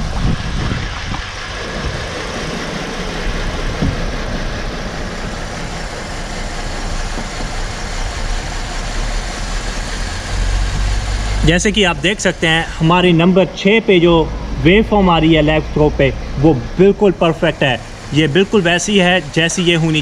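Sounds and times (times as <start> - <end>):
engine idling with misfire: 0.0 - 20.0.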